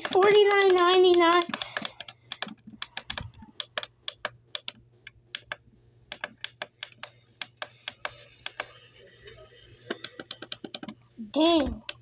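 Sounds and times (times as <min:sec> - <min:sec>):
computer keyboard keys clicking: 0:00.0 - 0:08.8, 0:09.9 - 0:11.0.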